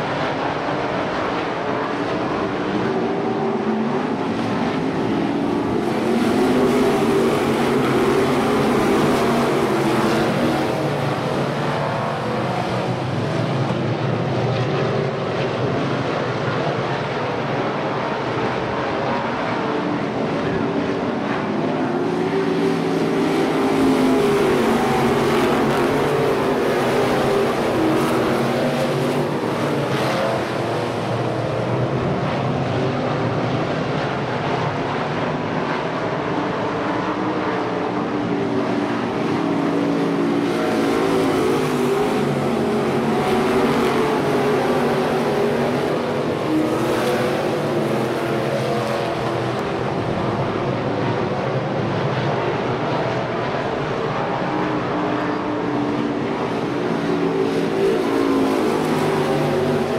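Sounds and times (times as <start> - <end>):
race car engines running hard: 0.0 - 59.9.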